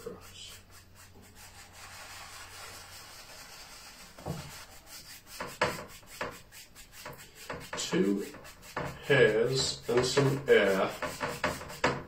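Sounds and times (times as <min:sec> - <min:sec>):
paintbrush brushing on canvas: 0:00.0 - 0:12.0.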